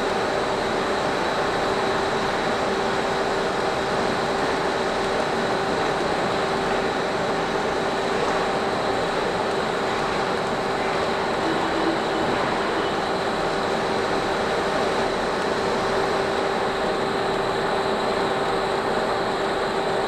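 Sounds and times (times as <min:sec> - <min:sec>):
paddle mixer running: 0:00.0 - 0:20.0.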